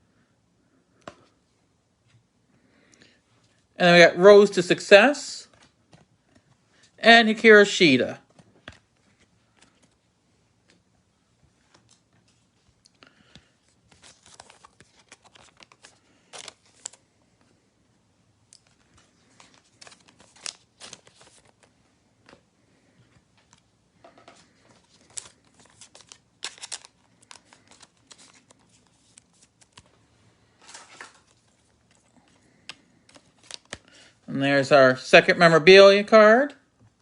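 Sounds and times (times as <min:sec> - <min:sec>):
cards and foil wrappers rustling: 0:04.2 - 0:17.6, 0:18.4 - 0:36.2.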